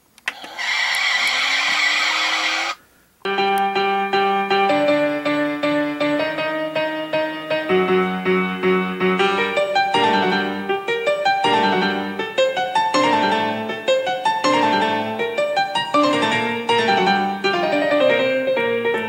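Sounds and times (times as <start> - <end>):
piano quick run of notes: 3.3 - 19.0.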